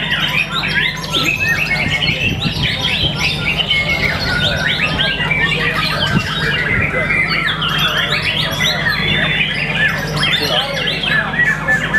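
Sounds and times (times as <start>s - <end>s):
bird singing chirps and whistles: 0.0s - 11.9s.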